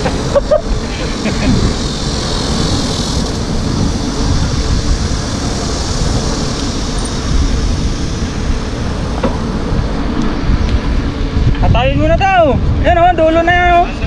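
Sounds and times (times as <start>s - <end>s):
tyre noise on wet road: 0.0s - 11.5s
wind rumbling on microphone: 0.0s - 14.0s.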